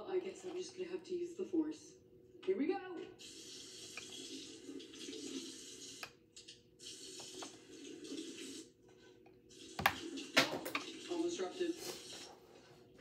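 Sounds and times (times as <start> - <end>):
water running: 2.5 - 13.0.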